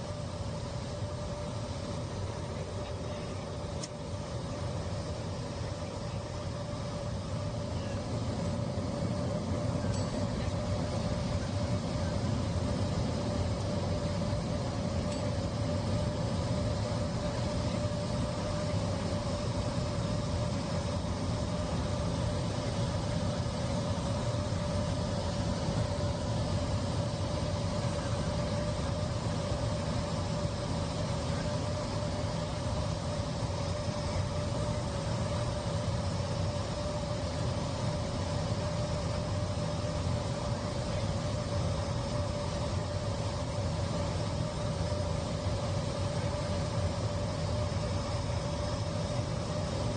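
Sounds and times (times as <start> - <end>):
jet engine and airflow drone: 0.0 - 49.9
steady humming tone: 0.0 - 49.9.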